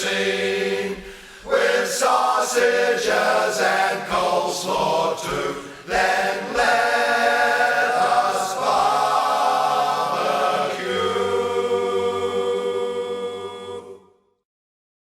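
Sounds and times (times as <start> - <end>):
backing music: 0.0 - 13.9
voices singing together: 0.0 - 14.2.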